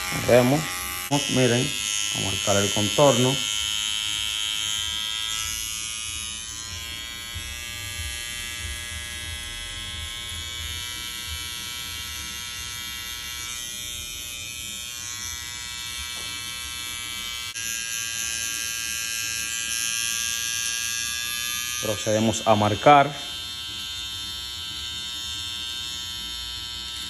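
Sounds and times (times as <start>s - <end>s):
hair trimmer buzzing: 0.0s - 27.0s.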